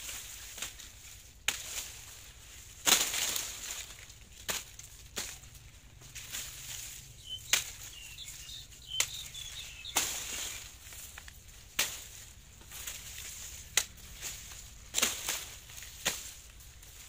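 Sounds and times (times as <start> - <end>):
dry leaves rustling: 0.0 - 17.0
machete chopping cane stalks: 0.0 - 17.0.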